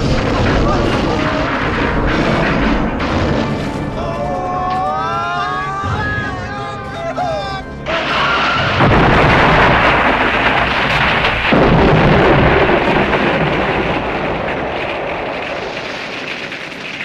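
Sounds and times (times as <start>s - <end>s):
loud rumbling blast: 0.0s - 4.8s, 7.9s - 17.0s.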